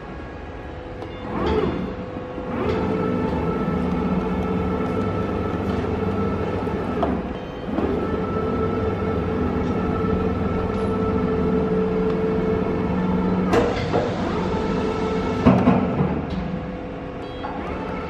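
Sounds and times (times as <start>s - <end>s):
industrial machine humming: 0.0s - 18.0s.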